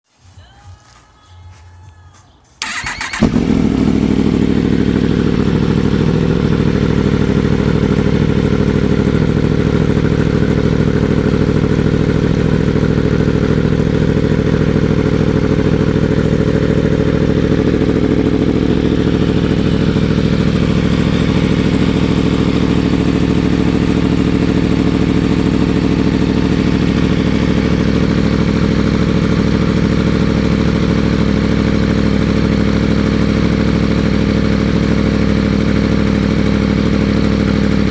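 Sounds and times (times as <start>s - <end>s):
motorcycle engine idling: 2.6s - 37.9s.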